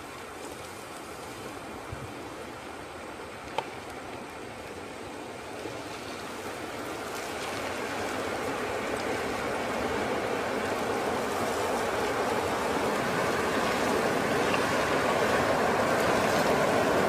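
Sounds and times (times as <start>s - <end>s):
muddy water rushing: 0.0s - 17.0s.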